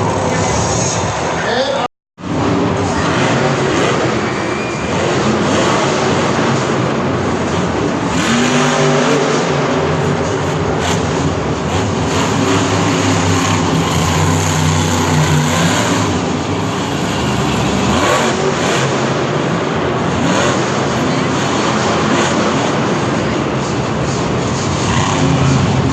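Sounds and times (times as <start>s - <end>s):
monster truck engine revving: 2.2s - 25.9s.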